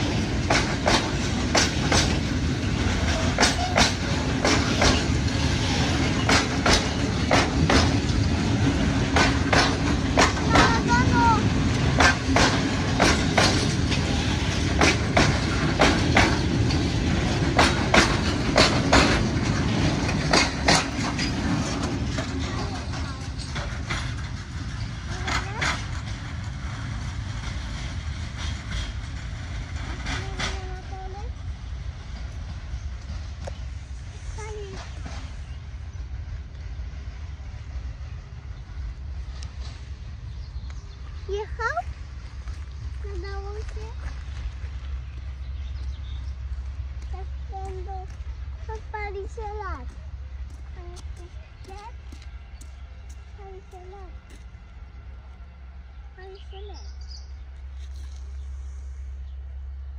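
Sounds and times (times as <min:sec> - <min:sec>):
wheels clacking over rail joints: 0:00.0 - 0:54.9
train rumble: 0:00.0 - 0:59.9.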